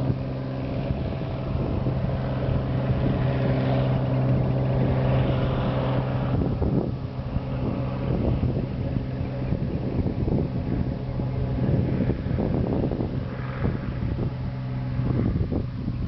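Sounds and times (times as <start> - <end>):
propeller plane engine drone: 0.0 - 16.0
wind buffeting microphone: 0.0 - 16.0.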